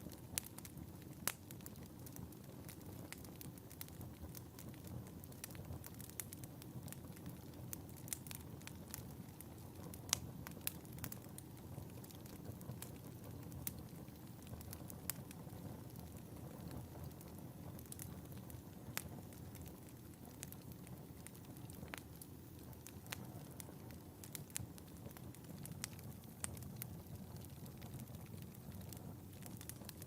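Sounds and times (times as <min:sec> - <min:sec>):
fire crackling and popping: 0:00.0 - 0:30.0
steady rush of flame: 0:00.0 - 0:30.0.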